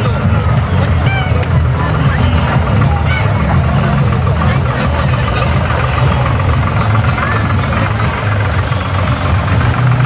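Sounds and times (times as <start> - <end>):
crowd noise: 0.0 - 10.0
tractor diesel engine running: 0.0 - 10.0.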